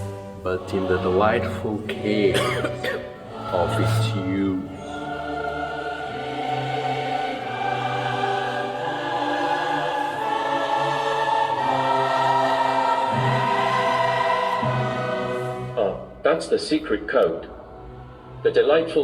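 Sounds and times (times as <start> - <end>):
choir holding sustained notes: 0.0 - 19.0.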